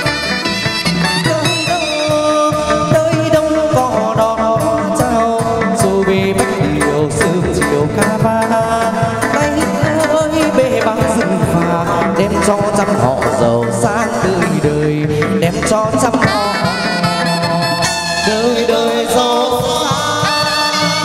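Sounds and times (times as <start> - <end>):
busy percussion beat: 0.0 - 21.0
sliding melodic line: 0.0 - 21.0.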